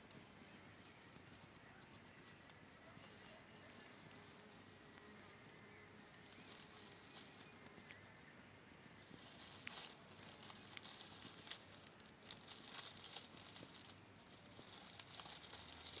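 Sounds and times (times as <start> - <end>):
rustling in vegetation: 0.0 - 16.0.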